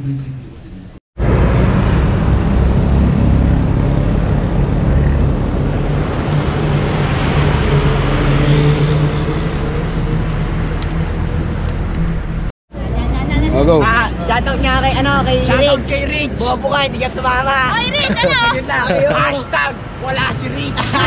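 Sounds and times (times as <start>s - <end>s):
road noise rushing: 0.0s - 21.0s.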